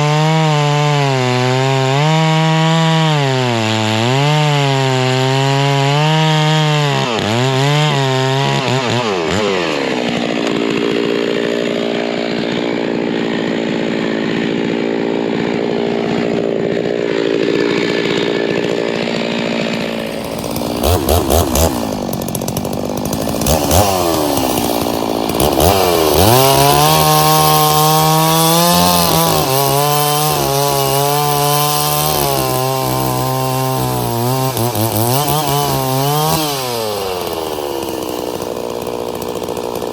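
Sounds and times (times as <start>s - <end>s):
chainsaw cutting wood: 0.0s - 39.9s
chainsaw throttle blips: 0.0s - 39.9s.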